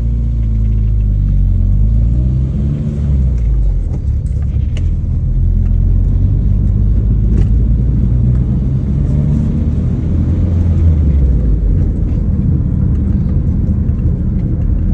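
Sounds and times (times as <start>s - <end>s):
car engine running with low rumble: 0.0s - 14.9s.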